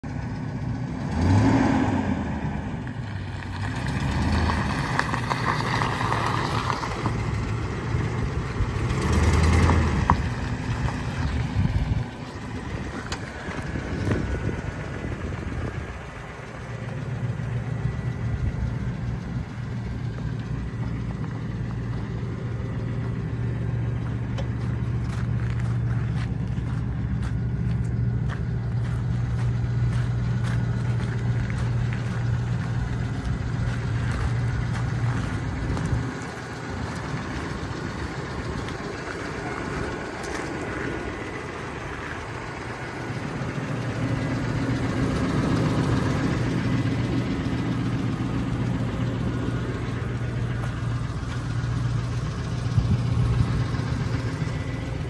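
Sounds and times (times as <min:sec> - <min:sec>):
pickup engine idling: 0:00.0 - 0:55.0.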